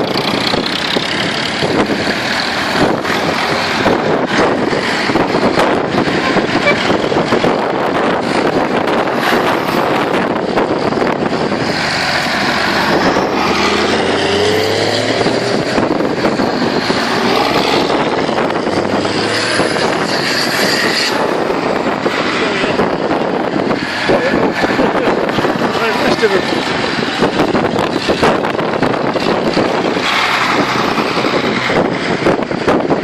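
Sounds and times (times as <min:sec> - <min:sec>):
tractor engines running: 0:00.0 - 0:33.0.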